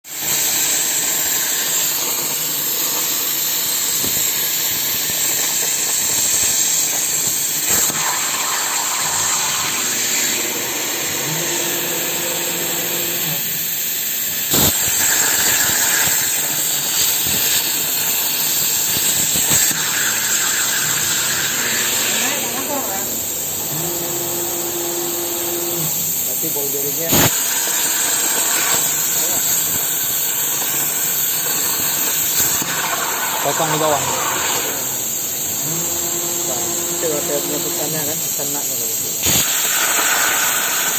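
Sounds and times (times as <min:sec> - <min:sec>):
plasma cutter hissing: 0:00.0 - 0:40.9.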